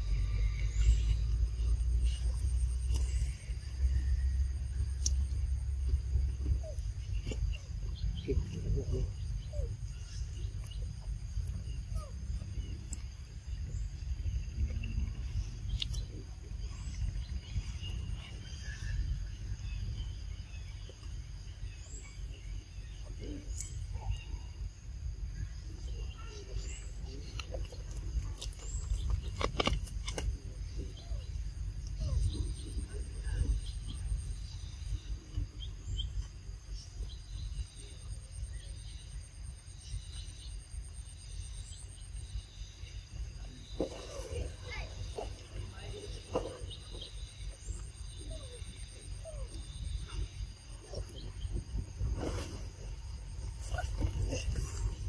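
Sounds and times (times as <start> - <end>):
low rumble: 0.0 - 55.0.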